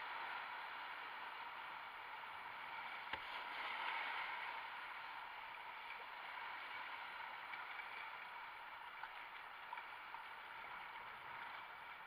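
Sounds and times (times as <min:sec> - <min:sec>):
small water splashes: 0:00.0 - 0:12.0.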